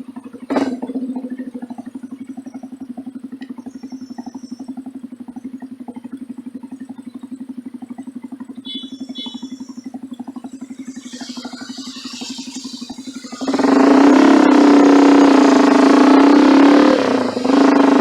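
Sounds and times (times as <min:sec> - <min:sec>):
engine exhaust idling and revving: 0:00.0 - 0:18.0.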